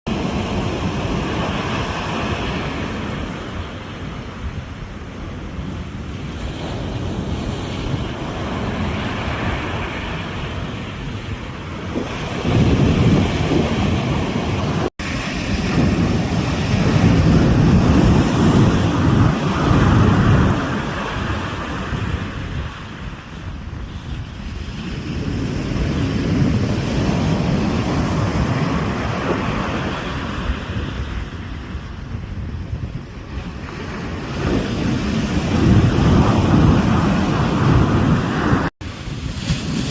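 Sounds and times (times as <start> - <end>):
ocean waves breaking: 0.1 - 39.9
wind rumbling on microphone: 0.1 - 39.9.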